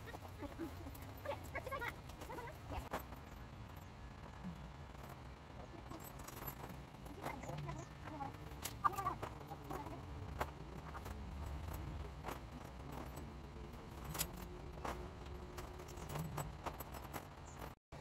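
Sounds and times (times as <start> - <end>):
tent parts clinking and clicking: 0.0 - 17.8.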